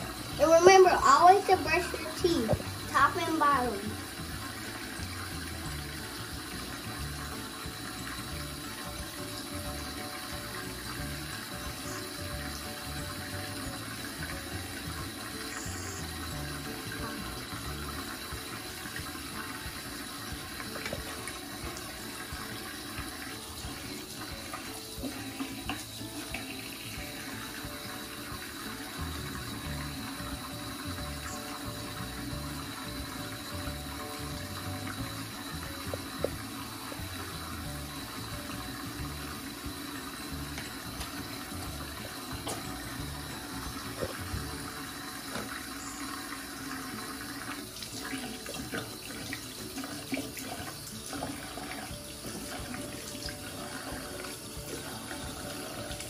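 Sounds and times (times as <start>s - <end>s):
tap water splashing into basin: 0.0s - 56.0s.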